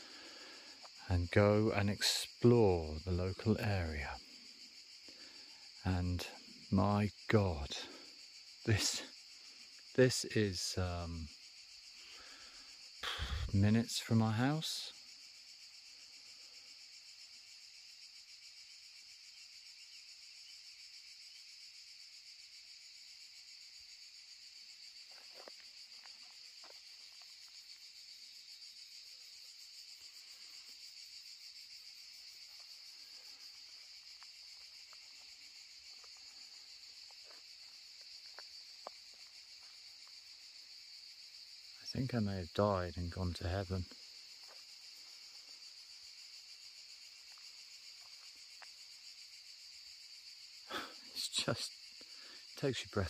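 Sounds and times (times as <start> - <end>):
insects shrilling: 0.0 - 53.0.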